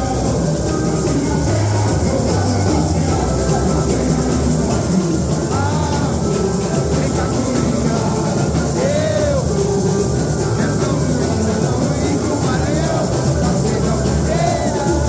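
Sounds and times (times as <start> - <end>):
live samba music: 0.0 - 15.0.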